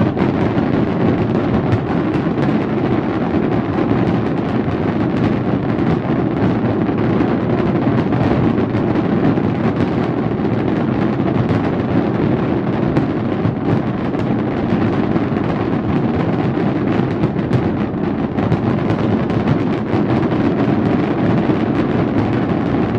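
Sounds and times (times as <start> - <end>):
fireworks booms and crackling: 0.0 - 22.9.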